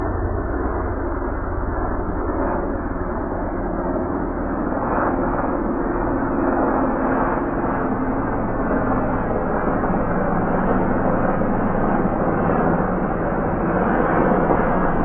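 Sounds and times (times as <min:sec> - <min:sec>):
aircraft engine drone overhead: 0:00.0 - 0:15.0.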